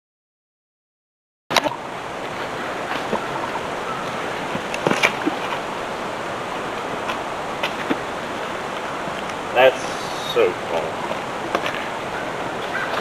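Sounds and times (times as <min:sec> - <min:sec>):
rushing outdoor noise: 0:01.5 - 0:13.0.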